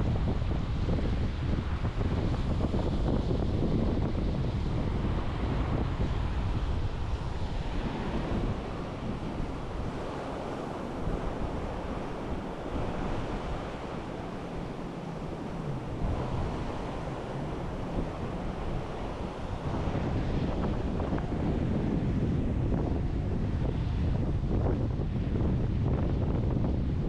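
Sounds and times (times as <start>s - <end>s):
sea surf washing onto beach: 0.0s - 25.9s
wind buffeting microphone: 0.0s - 27.0s.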